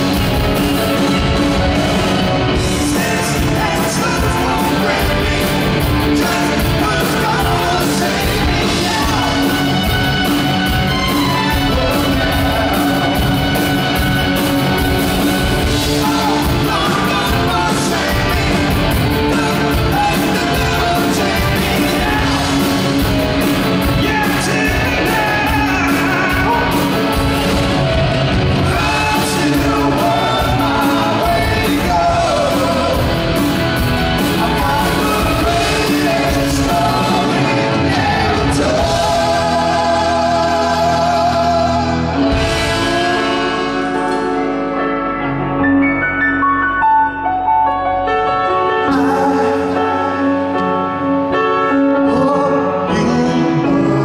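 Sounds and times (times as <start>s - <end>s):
pounding drum kit: 0.0s - 44.6s
lead vocals: 0.0s - 54.0s
live rock band playing: 0.0s - 54.0s.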